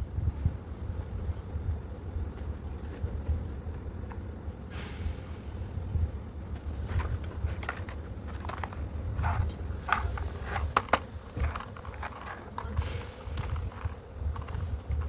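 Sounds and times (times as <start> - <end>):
low handling rumble: 0.0 - 15.0.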